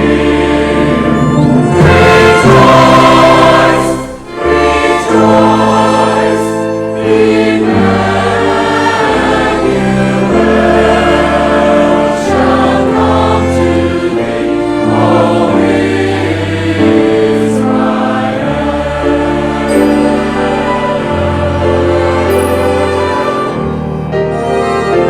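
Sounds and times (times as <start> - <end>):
choir singing: 0.0 - 25.0
orchestral accompaniment: 0.0 - 25.0.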